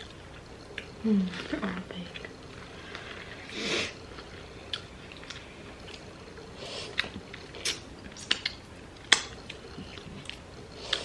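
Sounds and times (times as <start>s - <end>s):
chewing and wet mouth sounds: 0.0s - 11.0s.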